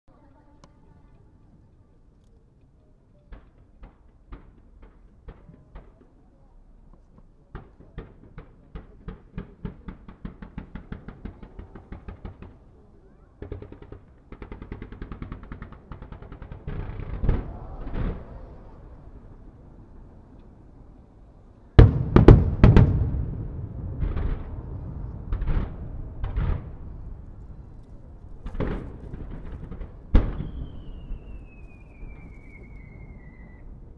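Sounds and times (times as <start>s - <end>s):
fireworks launching with sharp pops: 3.1s - 19.0s, 21.8s - 33.8s.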